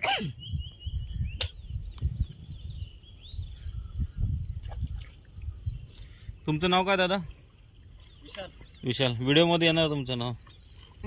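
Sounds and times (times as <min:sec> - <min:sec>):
bird chirping: 0:00.2 - 0:11.0
wind buffeting microphone: 0:00.2 - 0:11.0.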